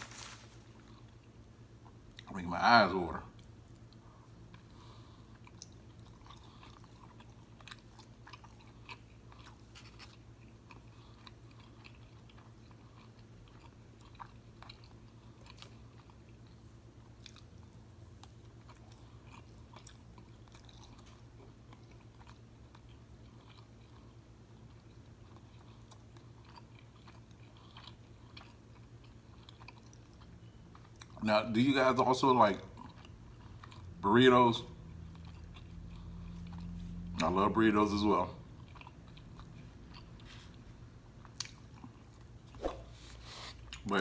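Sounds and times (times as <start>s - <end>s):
steady low hum: 0.0s - 44.0s
person chewing: 3.3s - 31.2s, 32.7s - 34.0s, 34.9s - 37.3s, 38.4s - 44.0s.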